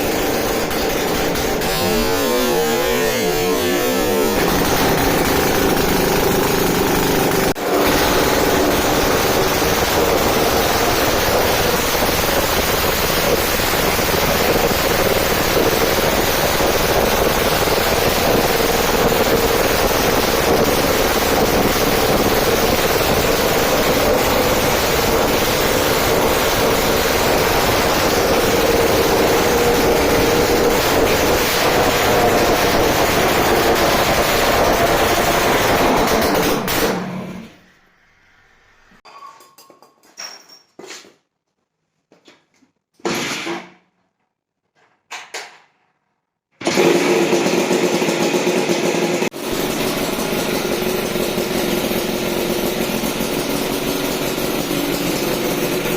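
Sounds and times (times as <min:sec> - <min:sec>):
two-stroke engine running: 0:00.0 - 0:37.6, 0:46.6 - 0:55.9.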